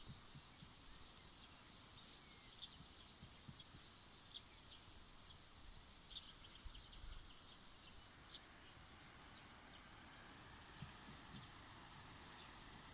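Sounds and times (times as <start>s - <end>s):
insects droning: 0.0s - 12.9s.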